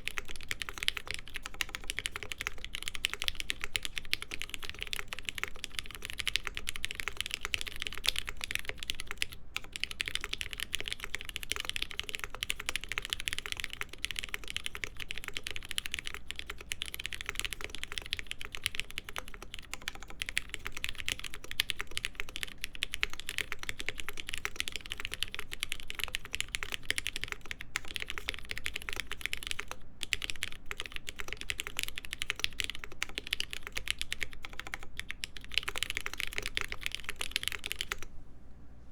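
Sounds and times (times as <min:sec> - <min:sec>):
fast typing on mechanical keyboard: 0:00.0 - 0:38.1.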